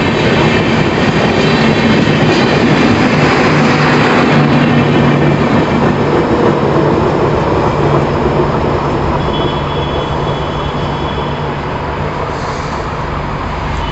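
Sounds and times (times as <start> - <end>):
passenger train passing: 0.0 - 13.9
wheels rumbling on track: 0.0 - 13.9.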